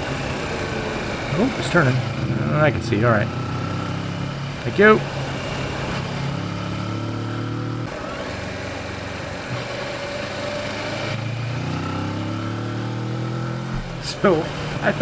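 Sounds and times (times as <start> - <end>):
motorcycle engine running: 0.0 - 15.0
riding noise: 0.0 - 15.0.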